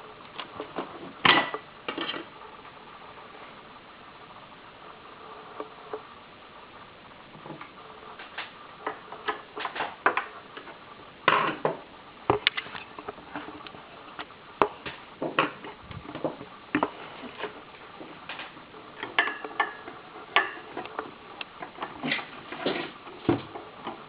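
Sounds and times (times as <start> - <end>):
steady low hiss: 0.0 - 24.0.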